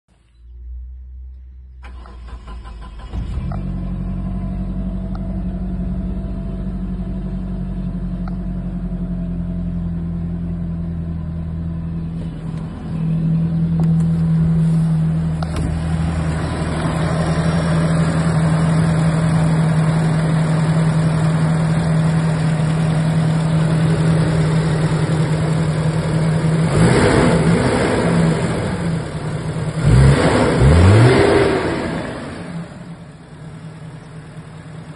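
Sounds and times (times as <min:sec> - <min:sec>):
car engine idling and revving: 0:00.2 - 0:34.9.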